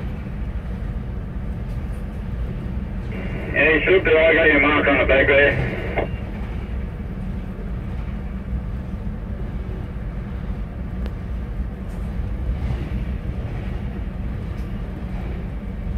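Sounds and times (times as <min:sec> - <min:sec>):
train wheels rumbling on rail: 0:00.0 - 0:15.9.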